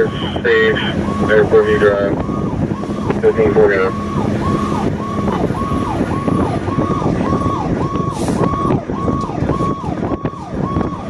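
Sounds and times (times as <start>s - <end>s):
electronic siren yelping: 0.0s - 11.0s
truck engine and road noise: 0.0s - 11.0s.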